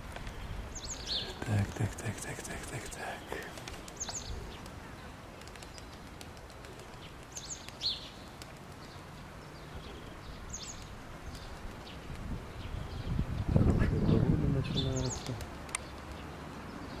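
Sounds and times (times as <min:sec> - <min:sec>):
small songbird chirping: 0:00.2 - 0:06.0, 0:06.9 - 0:17.0.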